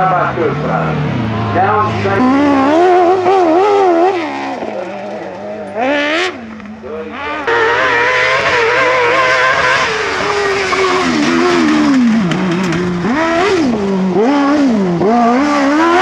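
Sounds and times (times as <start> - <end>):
buggy engines racing: 0.0 - 16.0.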